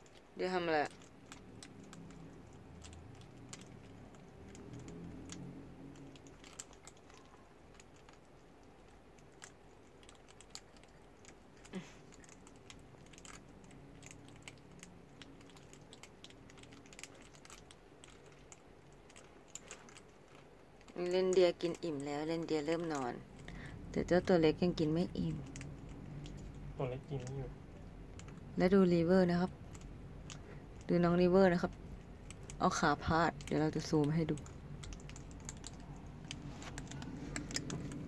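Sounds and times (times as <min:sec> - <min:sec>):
hedgehogs crunching kibble: 0:00.0 - 0:38.0.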